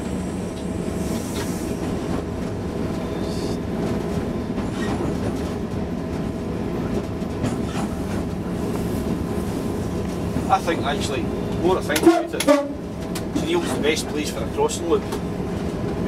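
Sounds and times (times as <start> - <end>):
diesel locomotive engine running: 0.0 - 16.0
wheel on rail rumble: 0.0 - 16.0.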